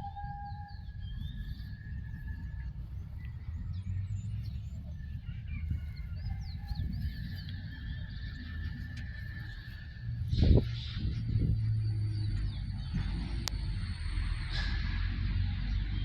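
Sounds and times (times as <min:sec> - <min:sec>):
birds chirping and calling: 0:00.0 - 0:14.7
steady low rumble: 0:00.0 - 0:16.0.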